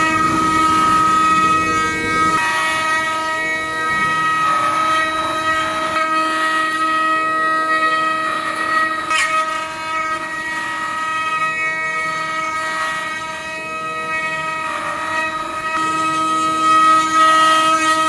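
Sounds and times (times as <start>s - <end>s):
bits cutting wood: 0.0s - 18.0s
router spindles whining: 0.0s - 18.0s.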